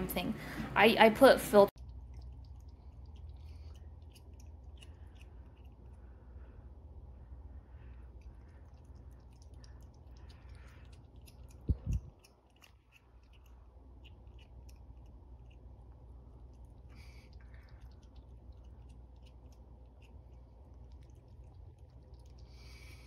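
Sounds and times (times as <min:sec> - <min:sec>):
steady low hum: 0:00.0 - 0:23.0
cat lapping water: 0:01.7 - 0:06.4, 0:07.9 - 0:23.0.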